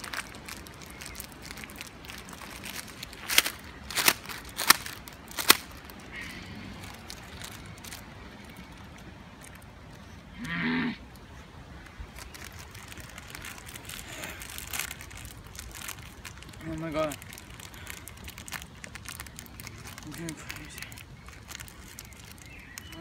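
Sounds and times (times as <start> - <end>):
plastic packet crinkling: 0.0 - 10.0, 11.9 - 23.0.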